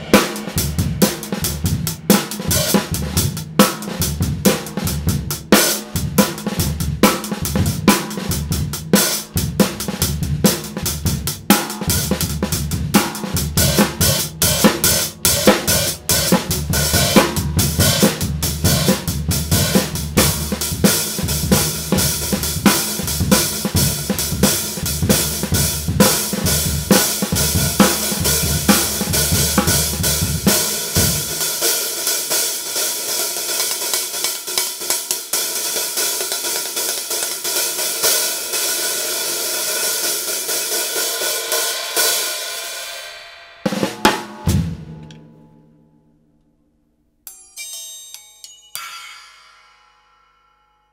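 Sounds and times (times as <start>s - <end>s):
drum kit groove: 0.0s - 45.6s.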